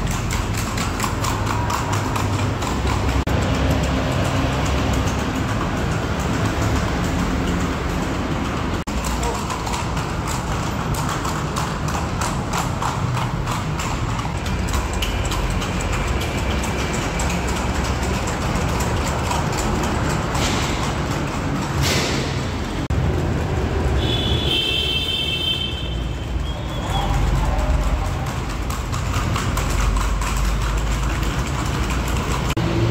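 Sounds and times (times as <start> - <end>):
horse hooves on asphalt: 0.0 - 32.9
passing traffic rumble: 0.0 - 32.9.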